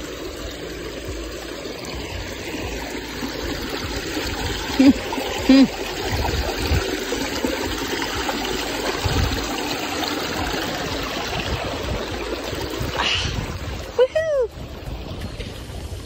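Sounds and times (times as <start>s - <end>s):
stream splashing over rocks: 0.0s - 16.0s.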